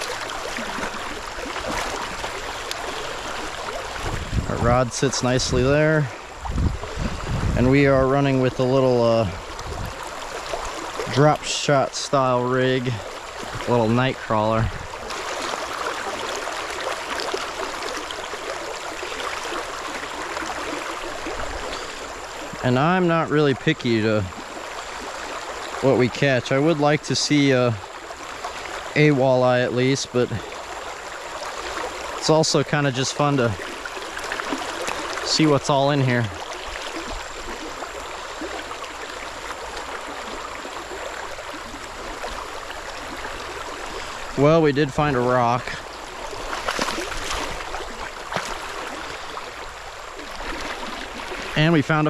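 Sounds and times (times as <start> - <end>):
creek water babbling over rocks: 0.0 - 52.0.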